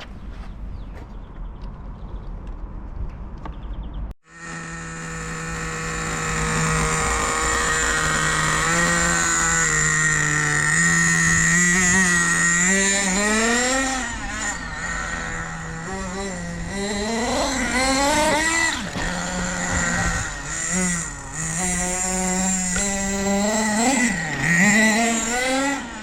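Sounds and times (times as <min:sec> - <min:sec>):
model engine buzzing and revving: 0:04.2 - 0:26.0.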